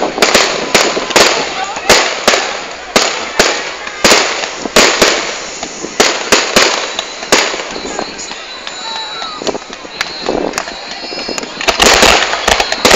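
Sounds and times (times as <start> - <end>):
fireworks shells bursting: 0.0 - 12.9.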